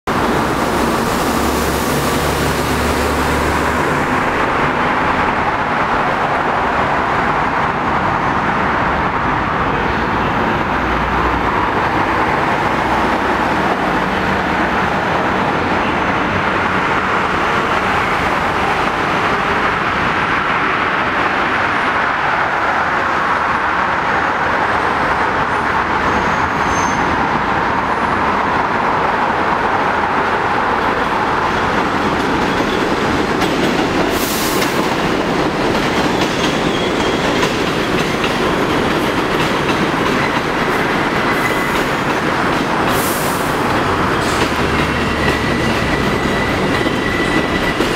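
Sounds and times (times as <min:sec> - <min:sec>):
road traffic rushing: 0:00.0 - 0:47.9.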